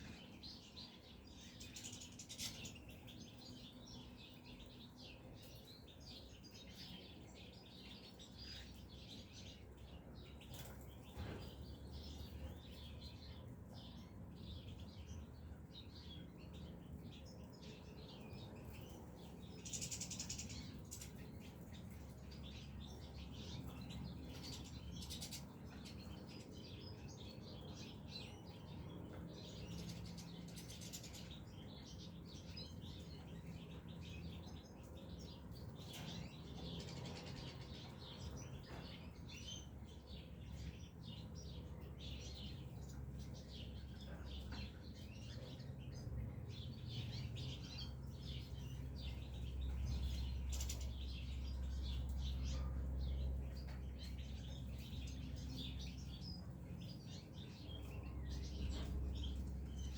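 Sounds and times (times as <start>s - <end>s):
finches chirping: 10.2s - 59.9s.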